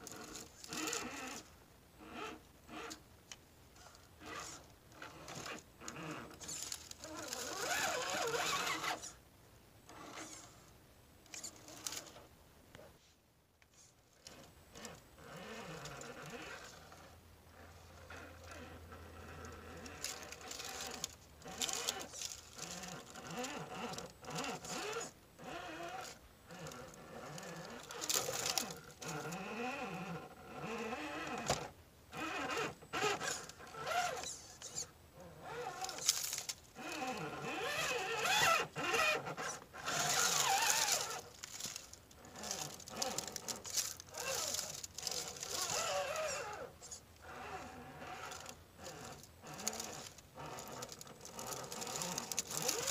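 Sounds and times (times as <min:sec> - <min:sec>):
toy car motor whining: 0:00.0 - 0:03.0, 0:03.8 - 0:09.2, 0:09.9 - 0:10.7, 0:11.3 - 0:12.3, 0:13.8 - 0:52.9.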